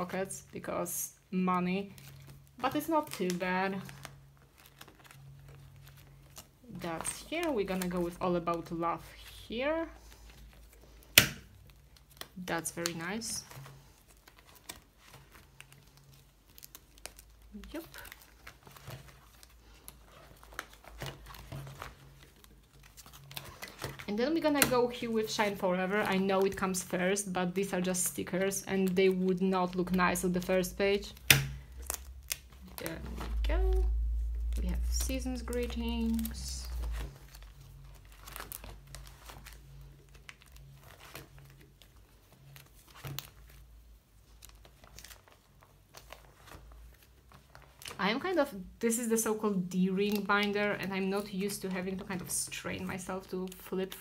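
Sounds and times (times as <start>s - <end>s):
plastic sleeves crinkling: 0.0s - 54.0s
page flipping: 1.8s - 48.0s, 49.4s - 54.0s.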